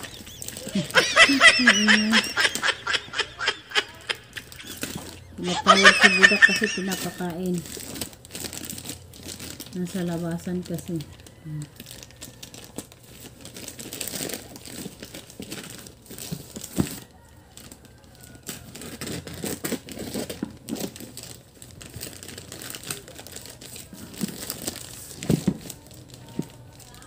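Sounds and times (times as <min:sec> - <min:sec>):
plastic mailer bag crinkling: 0:00.0 - 0:05.3, 0:06.1 - 0:17.0, 0:18.5 - 0:27.0.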